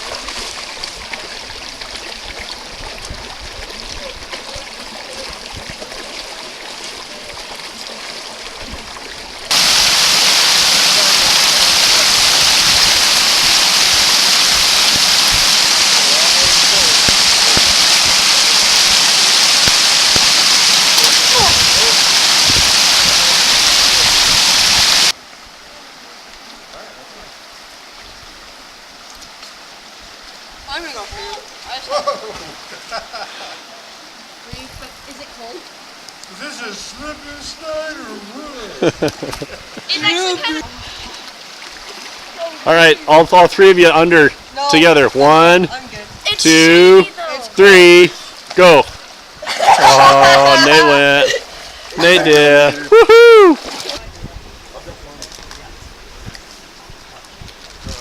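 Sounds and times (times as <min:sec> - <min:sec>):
creek water over rocks: 0:00.0 - 0:58.0
loud rush of water: 0:00.0 - 0:58.0.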